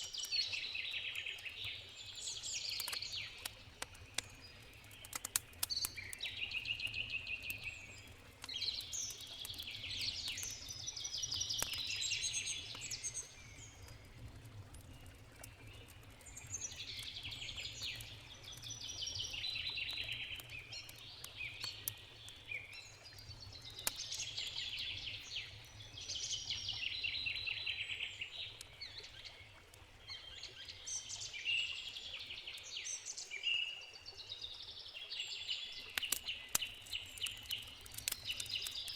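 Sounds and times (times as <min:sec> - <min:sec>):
campfire crackling: 0:00.0 - 0:33.0, 0:35.6 - 0:38.9.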